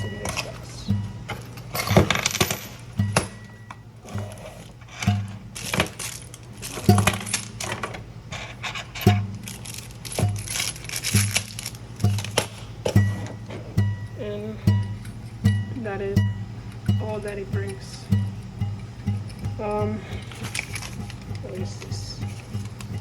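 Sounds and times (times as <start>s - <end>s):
background music with steady beat: 0.0s - 23.0s.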